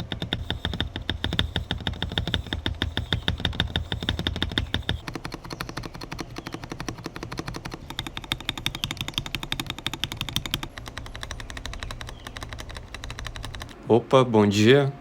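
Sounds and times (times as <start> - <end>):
fast typing on mechanical keyboard: 0.0 - 13.8.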